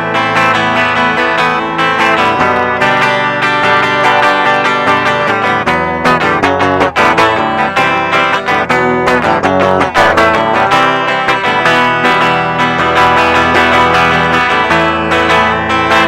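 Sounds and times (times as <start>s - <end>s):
effects-processed electric guitar: 0.0s - 16.0s
plucked and strummed guitar: 0.0s - 16.0s.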